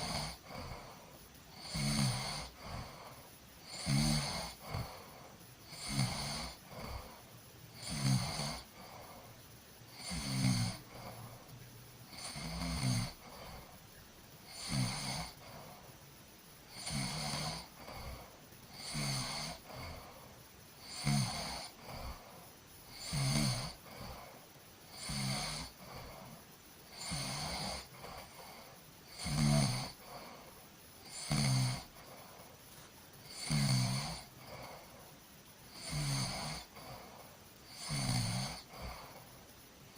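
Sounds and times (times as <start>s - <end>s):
person snoring: 0.0s - 11.5s, 12.1s - 13.8s, 14.5s - 15.9s, 16.7s - 32.6s, 33.2s - 35.1s, 35.7s - 39.4s.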